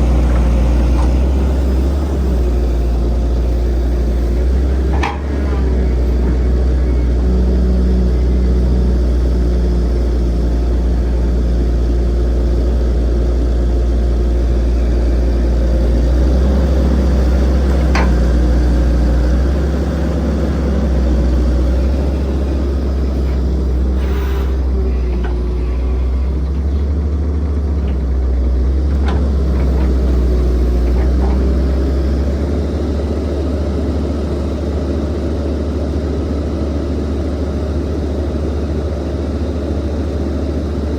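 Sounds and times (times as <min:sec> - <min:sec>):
heavy machinery diesel engine: 0:00.0 - 0:40.9.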